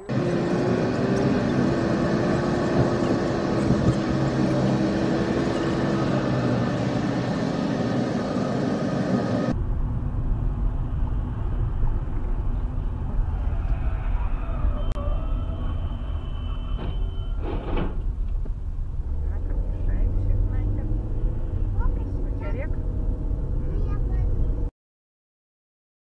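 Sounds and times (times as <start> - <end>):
car engine and road noise: 0.0 - 24.7.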